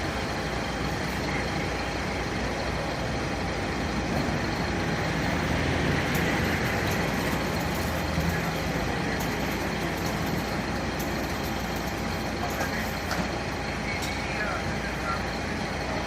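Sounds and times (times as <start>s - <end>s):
large vehicle engine running: 0.0s - 16.0s
road traffic noise: 0.0s - 16.0s.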